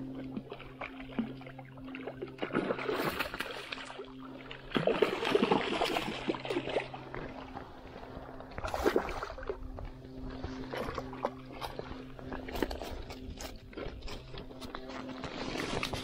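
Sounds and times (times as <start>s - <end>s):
steady low hum: 0.0s - 16.0s
water splashing and sloshing: 0.0s - 16.0s.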